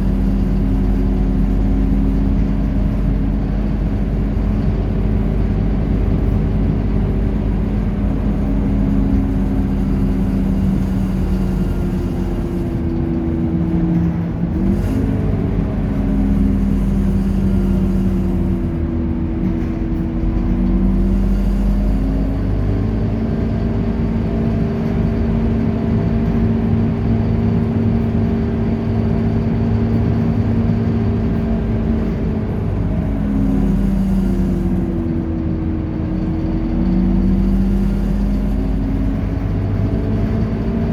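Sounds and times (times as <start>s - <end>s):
bus diesel engine running: 0.0s - 40.9s
low road rumble: 0.0s - 40.9s.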